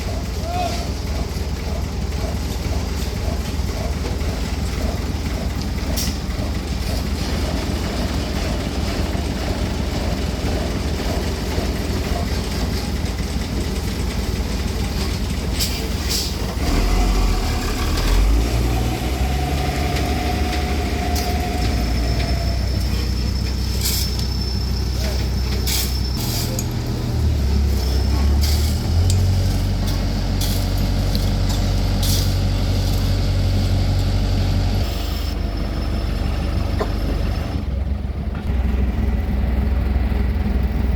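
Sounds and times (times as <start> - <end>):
construction machinery engine drone: 0.0 - 40.9.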